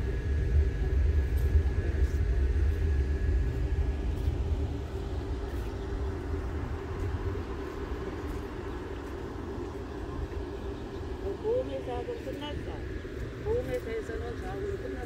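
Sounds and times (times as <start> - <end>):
faint high whine: 0.0 - 15.0
low outdoor rumble: 0.0 - 15.0.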